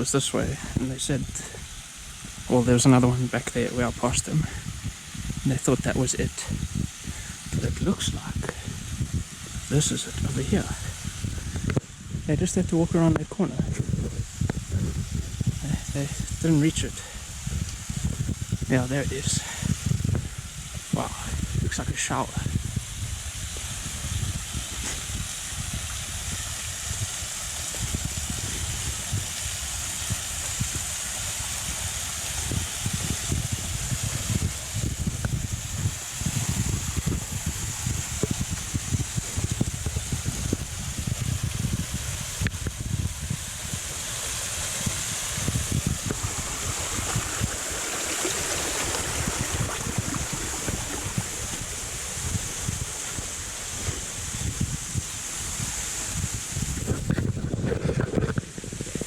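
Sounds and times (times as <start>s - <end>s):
small waterfall splashing: 0.0s - 59.0s
wind buffeting microphone: 0.0s - 59.0s.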